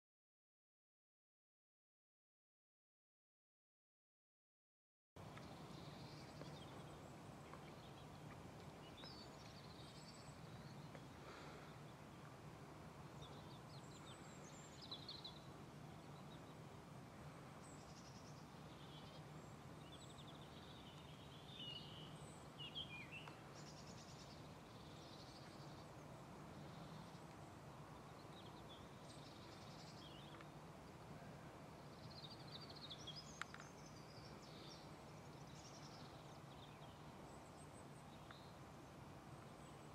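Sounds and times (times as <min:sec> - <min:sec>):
faint low hum: 0:05.2 - 0:39.9
small birds chirping: 0:05.2 - 0:39.9.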